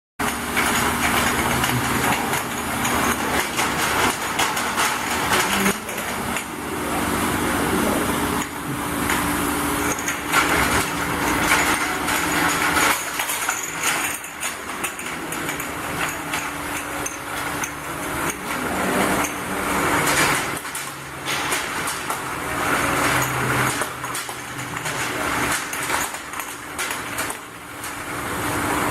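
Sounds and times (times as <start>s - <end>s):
glass bottles clinking: 0.2s - 7.4s, 8.0s - 28.2s
motor hum: 0.2s - 28.9s.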